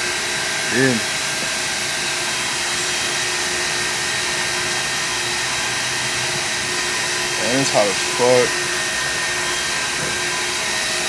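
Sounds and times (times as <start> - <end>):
car wash equipment hissing: 0.0 - 11.0
machinery humming: 0.0 - 11.0.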